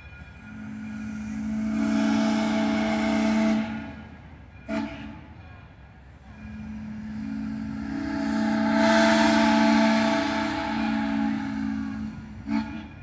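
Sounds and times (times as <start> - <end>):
steam locomotive whistle: 0.0 - 5.3, 6.4 - 13.0.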